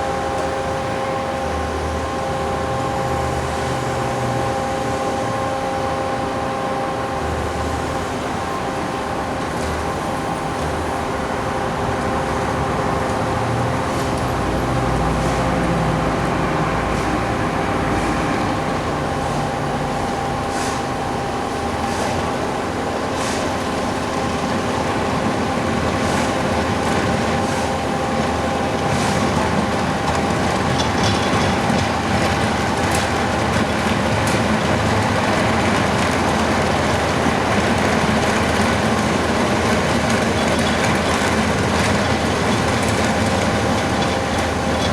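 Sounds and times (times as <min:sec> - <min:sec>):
diesel engine drone with whine: 0:00.0 - 0:44.9.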